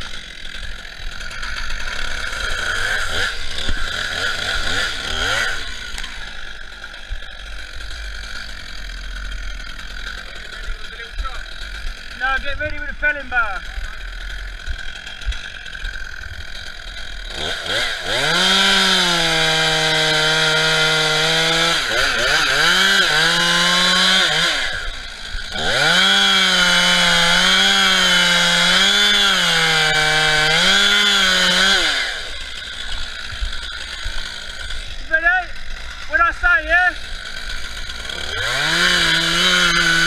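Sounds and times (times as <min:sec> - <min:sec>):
chainsaw cutting through trunk: 0:00.0 - 0:40.0.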